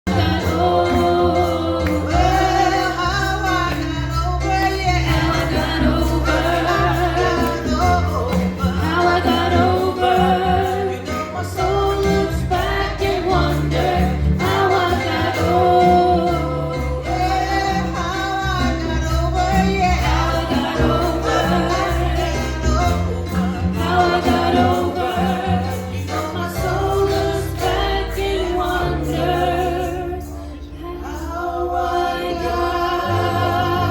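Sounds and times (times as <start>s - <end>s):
gospel-style singing: 0.0s - 33.9s
held bass notes: 0.1s - 33.9s.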